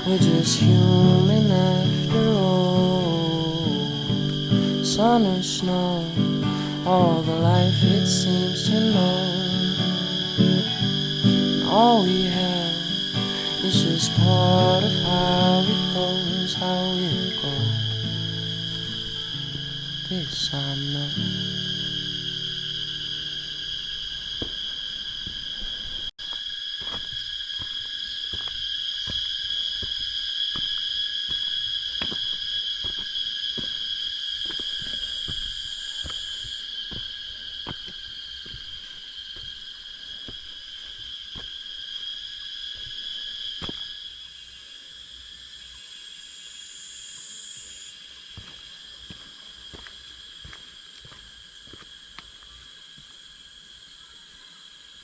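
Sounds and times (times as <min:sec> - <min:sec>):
insects singing in chorus: 0:00.0 - 0:55.0.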